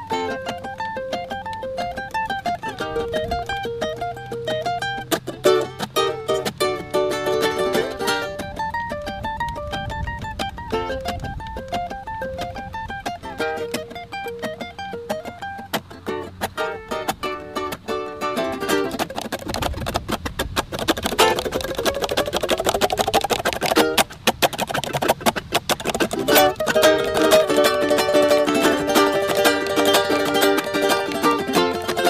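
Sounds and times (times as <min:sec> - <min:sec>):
plucked string music: 0:00.0 - 0:32.0.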